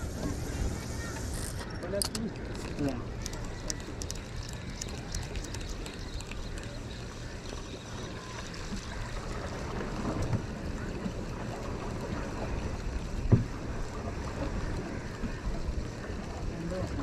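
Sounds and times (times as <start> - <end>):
water lapping against boat: 0.0 - 17.0.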